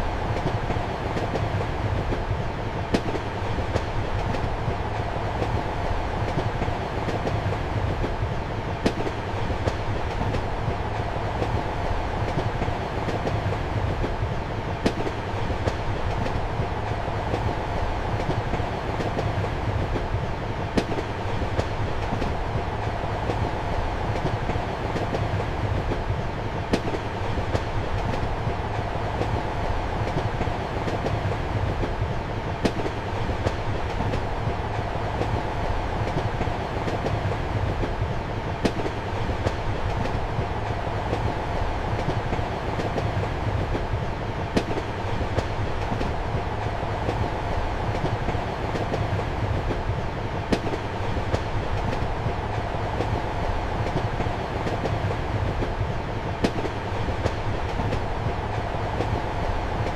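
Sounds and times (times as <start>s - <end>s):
train rumble and hum: 0.0s - 59.9s
wheels clickety-clack: 0.1s - 59.9s.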